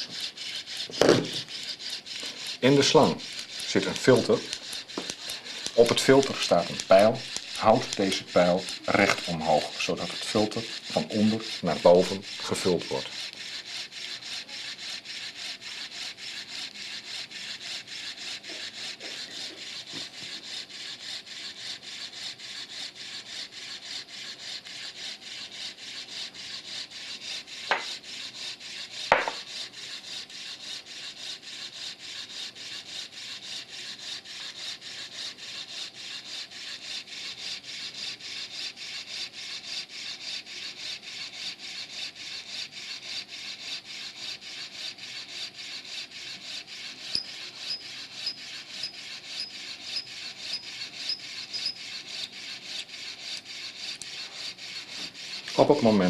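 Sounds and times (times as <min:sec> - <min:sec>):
pump mechanism rhythmic rasp: 0:00.0 - 0:56.0.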